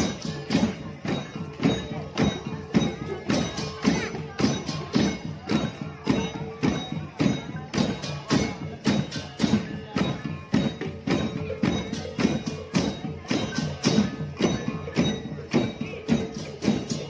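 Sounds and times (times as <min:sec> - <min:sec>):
cymbals: 0:00.0 - 0:17.0
hand drums: 0:00.0 - 0:17.0.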